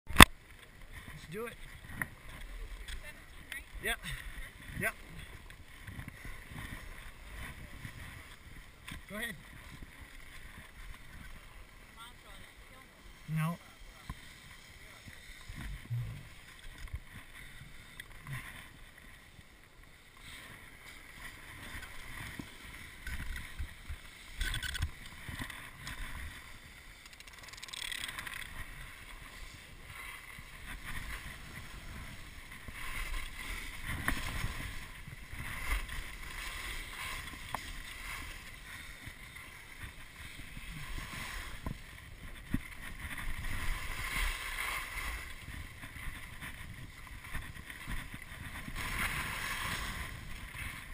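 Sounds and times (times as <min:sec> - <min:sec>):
skis scraping on snow: 0:00.4 - 0:50.9.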